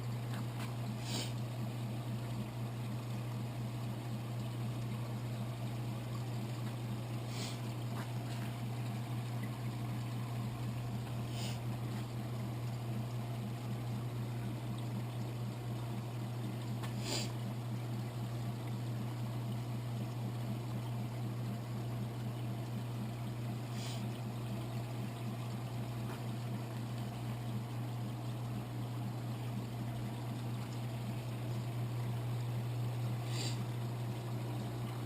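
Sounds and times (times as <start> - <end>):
aquarium pump humming: 0.0 - 35.0
trickling water: 0.0 - 35.0.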